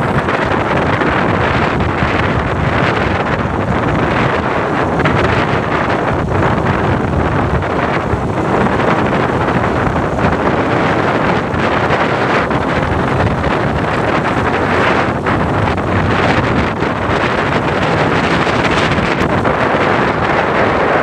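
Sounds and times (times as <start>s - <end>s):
road and vehicle noise: 0.0s - 21.0s
wind on microphone: 0.0s - 21.0s.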